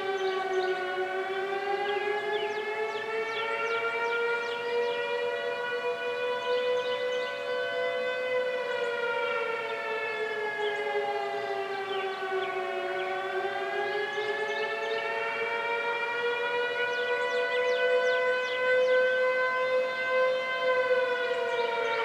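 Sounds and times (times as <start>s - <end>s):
siren wail sliding in pitch: 0.0s - 22.0s
steady siren tones: 0.0s - 22.0s.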